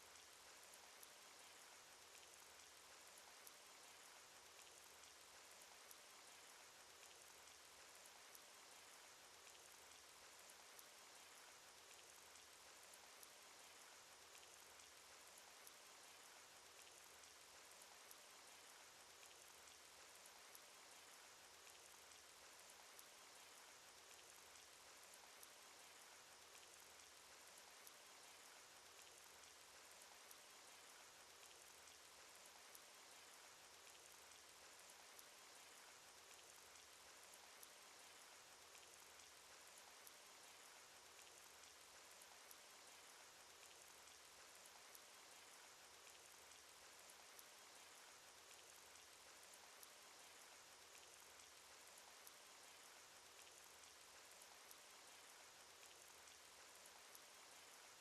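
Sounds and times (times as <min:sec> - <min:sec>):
rain hiss: 0:00.0 - 0:58.0.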